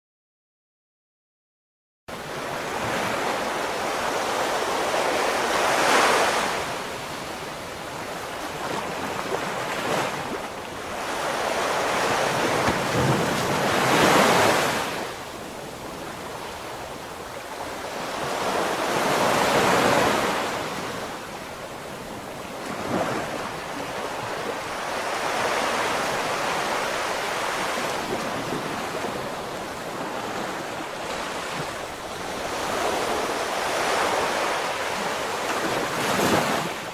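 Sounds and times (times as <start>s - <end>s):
ocean waves breaking: 2.1s - 36.9s.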